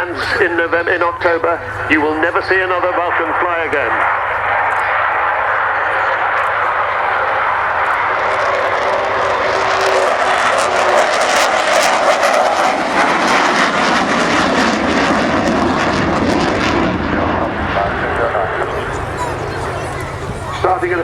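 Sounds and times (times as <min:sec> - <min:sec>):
jet bomber flying: 0:00.0 - 0:21.0.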